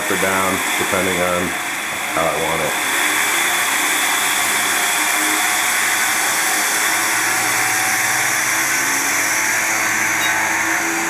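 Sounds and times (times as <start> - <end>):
flywheel high whir: 0.0 - 11.0.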